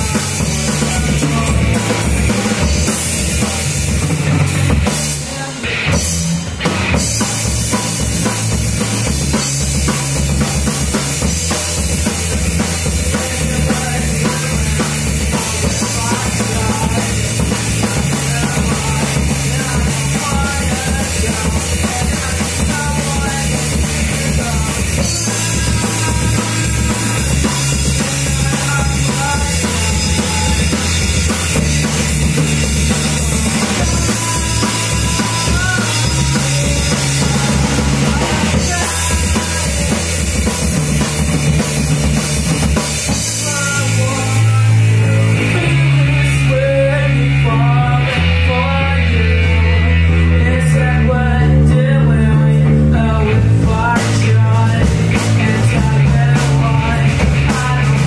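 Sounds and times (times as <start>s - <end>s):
held bass notes: 0.0s - 58.0s
live rock band playing: 0.0s - 58.0s.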